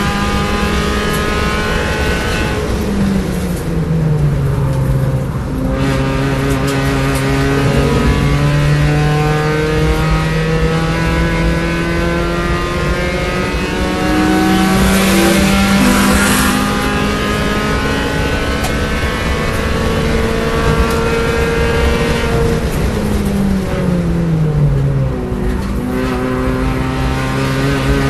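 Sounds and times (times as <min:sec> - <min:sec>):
race car engine at full throttle: 0:00.0 - 0:28.0.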